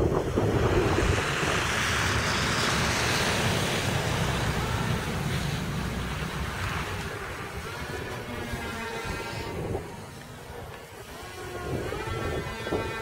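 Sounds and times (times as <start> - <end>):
model plane propellers rushing: 0.0 - 13.0
wind rumble on microphone: 0.0 - 13.0.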